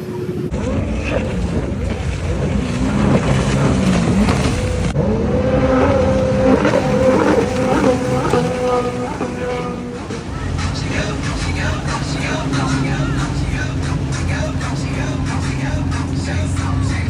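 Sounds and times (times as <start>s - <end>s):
motor engines revving: 0.0s - 17.0s.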